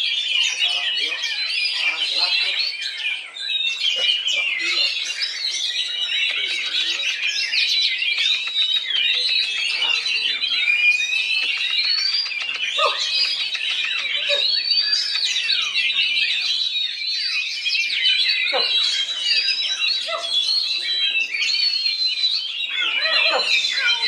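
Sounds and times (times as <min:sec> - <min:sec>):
bird singing whistled song: 0:00.0 - 0:24.0.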